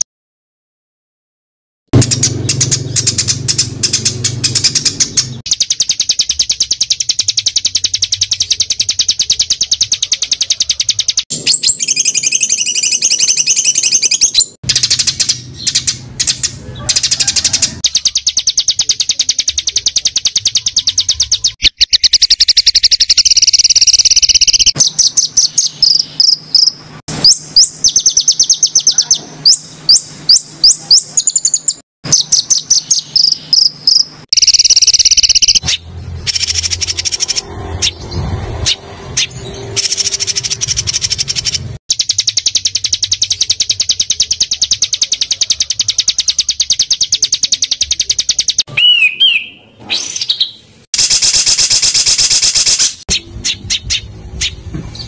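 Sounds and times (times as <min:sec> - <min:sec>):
songbirds trilling and chirping: 0:02.0 - 0:55.0.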